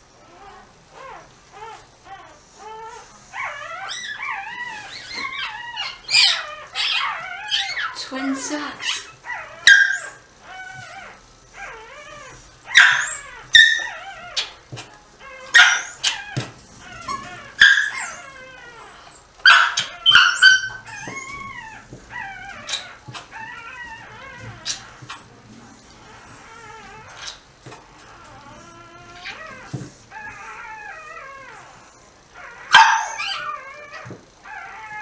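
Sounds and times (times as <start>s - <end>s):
puppy squealing: 0.3s - 14.6s, 15.2s - 25.3s, 26.0s - 35.0s.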